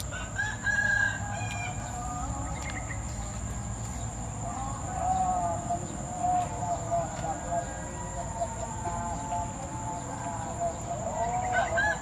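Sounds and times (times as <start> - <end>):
rooster crowing: 0.0 - 2.4, 4.4 - 12.0.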